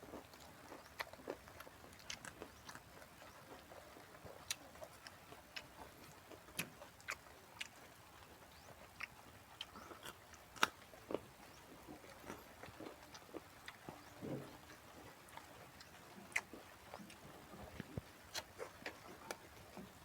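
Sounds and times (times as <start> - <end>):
person chewing raw vegetables: 0.0 - 20.0.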